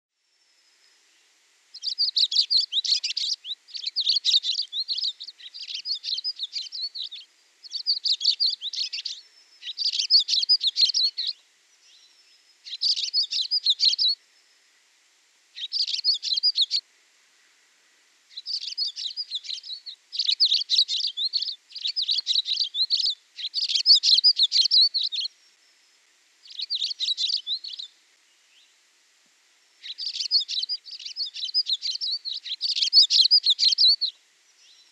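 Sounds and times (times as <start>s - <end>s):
songbird twittering: 1.7s - 14.8s, 15.6s - 16.8s, 18.3s - 28.8s, 29.8s - 34.9s.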